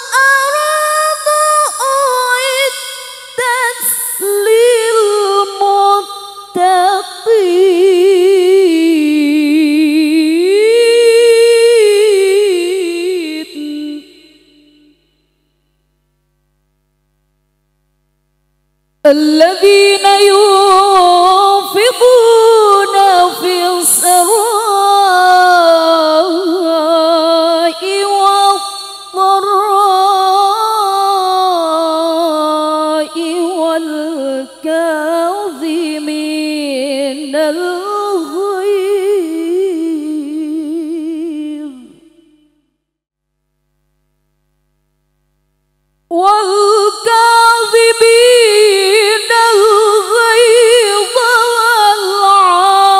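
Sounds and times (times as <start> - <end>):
woman chanting over loudspeakers: 0.0 - 15.0, 19.1 - 42.2, 46.1 - 52.9.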